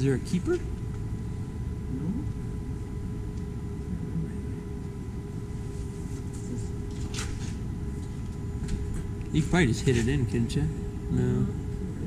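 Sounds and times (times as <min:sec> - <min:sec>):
faint steady hum: 0:00.0 - 0:12.0
steady low rumble: 0:00.0 - 0:12.0.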